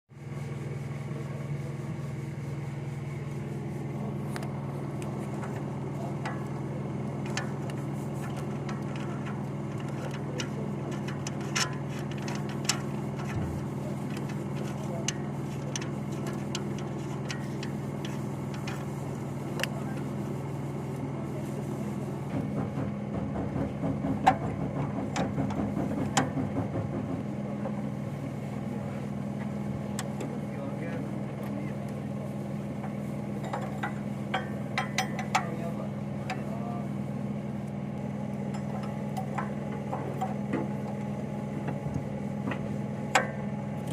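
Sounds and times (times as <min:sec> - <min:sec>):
car engine idling: 0:00.2 - 0:43.9.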